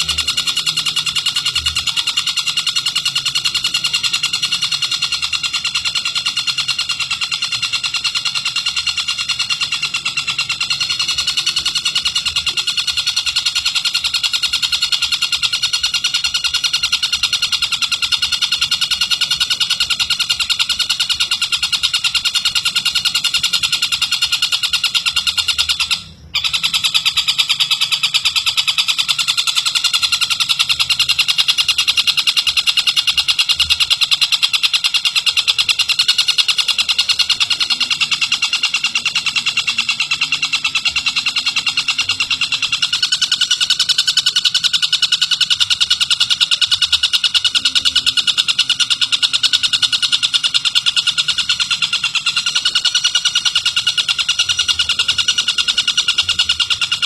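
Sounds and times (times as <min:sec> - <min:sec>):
kingfisher trilling call: 0:00.0 - 0:57.0.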